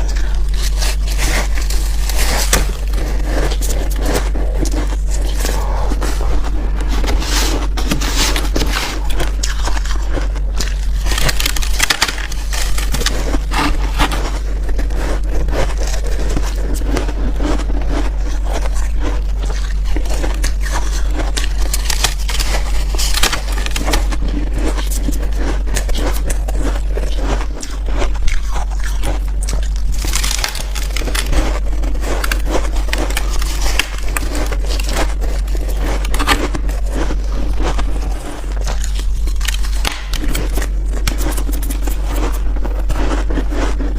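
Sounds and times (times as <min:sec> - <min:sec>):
ice being chewed and crunched: 0:00.0 - 0:43.9
steady low hum: 0:00.0 - 0:43.9.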